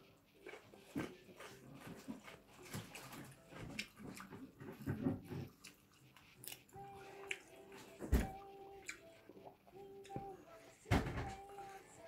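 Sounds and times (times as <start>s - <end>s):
wet chewing: 0.0s - 10.2s.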